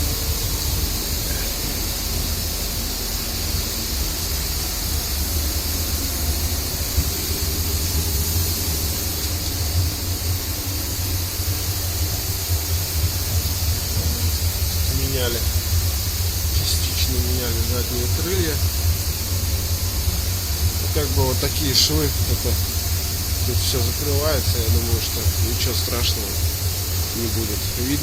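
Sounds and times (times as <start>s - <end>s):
low rumble: 0.0s - 28.0s
steady hiss: 0.0s - 28.0s.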